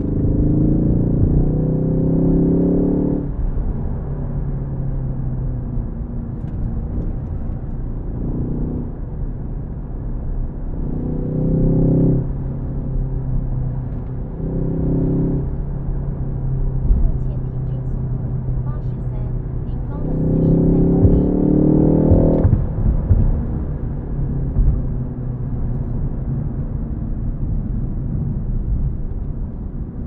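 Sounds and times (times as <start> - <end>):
car engine pulling under throttle: 0.0 - 30.0
road noise: 0.0 - 30.0.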